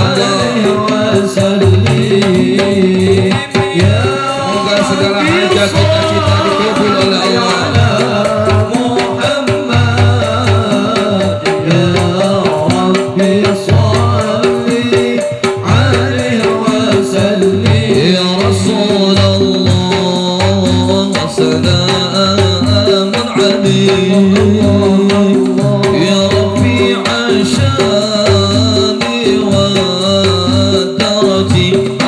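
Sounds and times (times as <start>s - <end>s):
hand-played percussion: 0.0s - 32.0s
man singing into a microphone: 0.0s - 32.0s.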